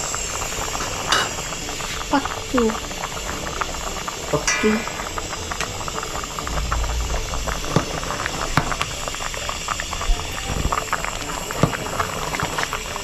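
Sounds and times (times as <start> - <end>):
food sizzling with pops: 0.0 - 13.0.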